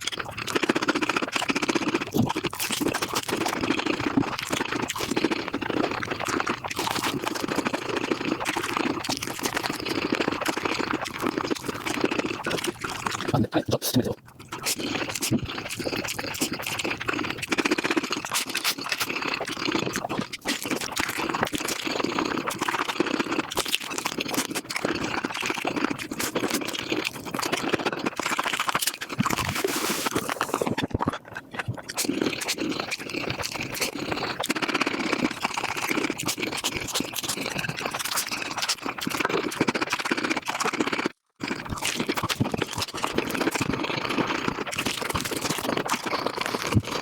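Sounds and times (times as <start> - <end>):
chewing and crunching food: 0.0 - 47.0.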